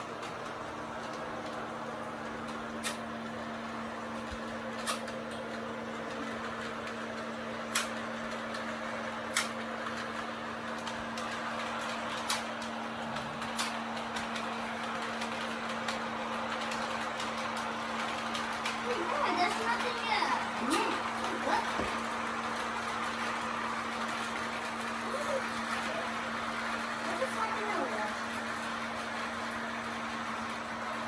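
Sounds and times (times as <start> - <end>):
toy train humming and rattling: 0.0 - 31.0.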